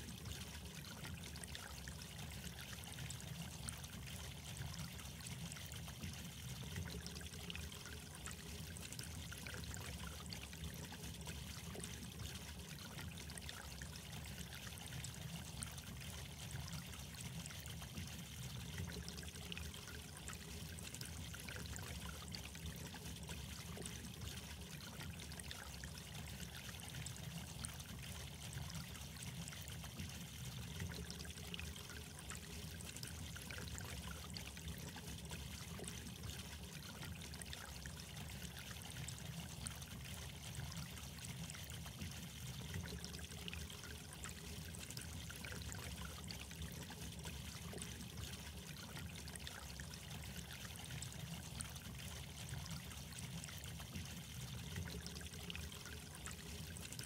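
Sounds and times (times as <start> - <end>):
trickling running water: 0.0 - 57.0.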